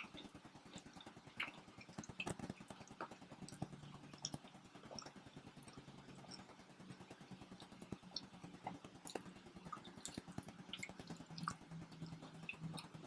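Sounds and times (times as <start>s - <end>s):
chewing pizza: 0.0s - 13.0s
faint low hum: 0.0s - 13.0s.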